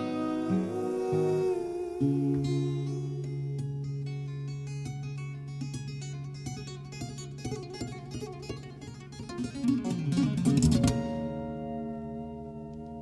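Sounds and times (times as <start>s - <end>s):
picked acoustic guitar: 0.0s - 13.0s.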